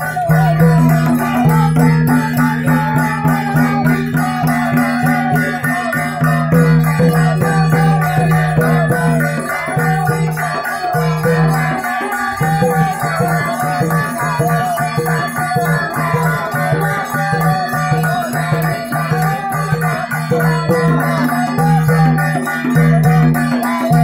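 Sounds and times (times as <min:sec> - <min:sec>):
drums beating: 0:00.0 - 0:24.0.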